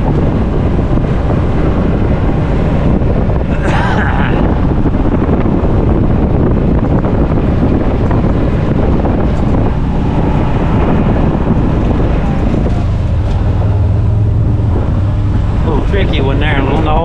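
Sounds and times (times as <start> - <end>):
off-road vehicle engine running: 0.0 - 17.0
steady low hum: 0.0 - 17.0
wind buffeting microphone: 0.0 - 17.0.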